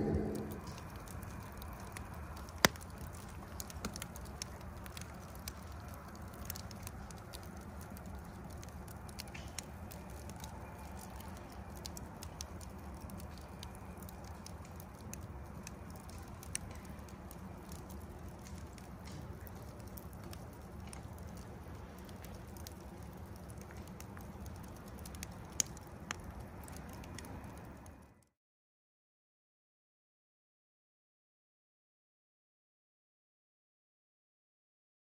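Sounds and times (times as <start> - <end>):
wood fire crackling and popping: 0.0 - 28.2.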